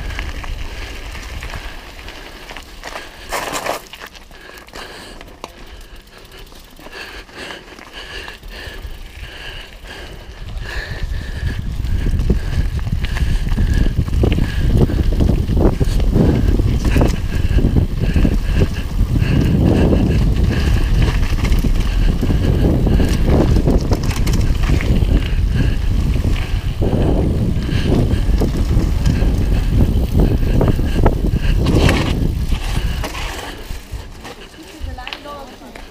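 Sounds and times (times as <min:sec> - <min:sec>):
wind buffeting microphone: 0:00.0 - 0:03.4, 0:07.9 - 0:35.9
bike rattling over bumps: 0:00.0 - 0:35.9
bike tyres crunching on gravel: 0:00.0 - 0:35.9.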